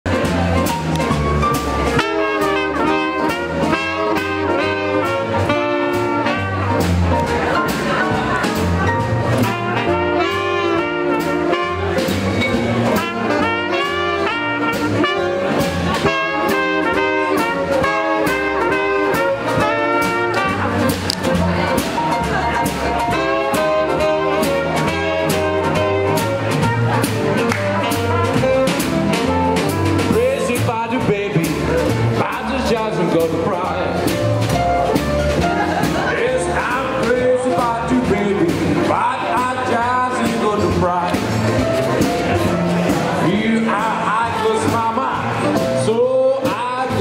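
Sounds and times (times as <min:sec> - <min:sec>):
drum kit swing beat: 0:00.0 - 0:47.0
upright bass: 0:00.0 - 0:47.0
saxophones and trumpet melody: 0:00.1 - 0:47.0.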